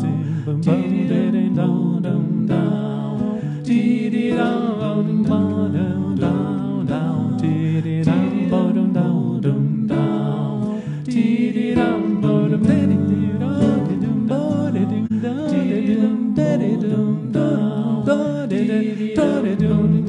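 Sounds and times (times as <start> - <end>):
nylon-string guitar playing: 0.0 - 20.0.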